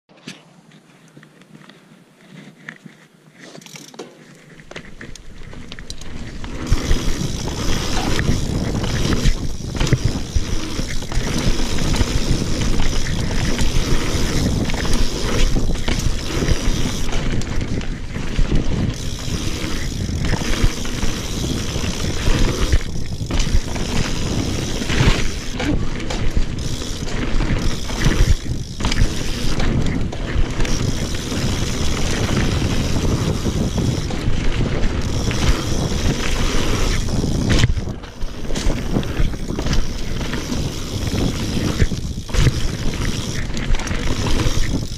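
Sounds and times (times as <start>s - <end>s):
bike clicks: 0.2s - 44.9s
bike rattling over bumps: 3.6s - 44.9s
wind on microphone: 6.6s - 44.9s.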